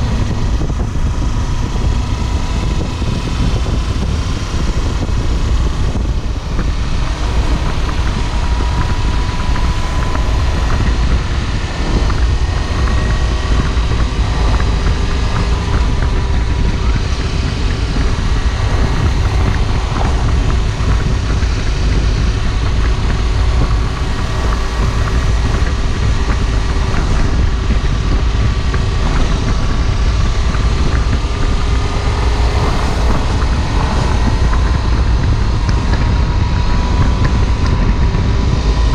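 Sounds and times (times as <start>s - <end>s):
motorcycle engine cruising: 0.0s - 38.9s
wind rumble on microphone: 0.0s - 38.9s.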